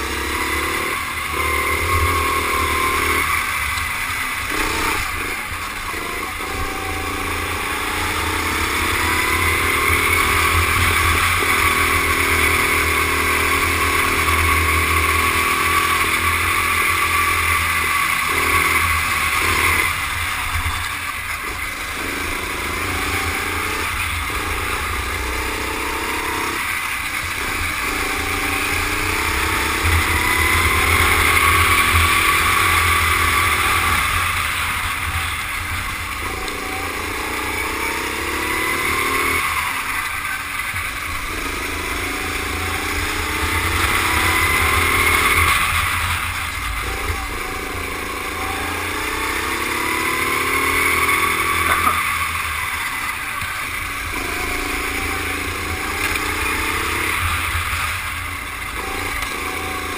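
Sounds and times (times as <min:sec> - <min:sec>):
go-kart engine whining: 0:00.0 - 0:59.9.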